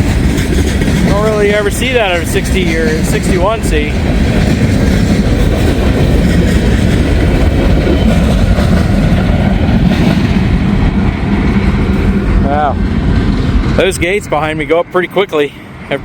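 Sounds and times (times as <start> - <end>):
freight train wheels clattering: 0.0 - 14.8
wind buffeting microphone: 0.0 - 16.0.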